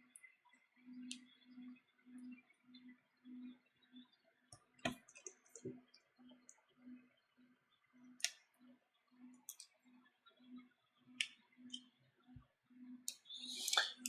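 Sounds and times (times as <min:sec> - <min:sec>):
faint pulsing low hum: 0:00.0 - 0:14.0.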